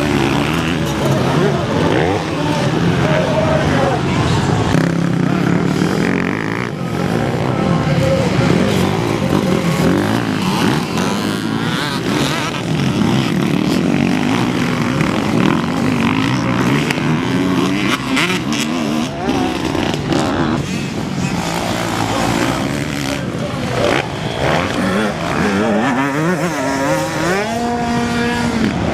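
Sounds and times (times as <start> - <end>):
motocross bike engines racing: 0.0 - 28.9.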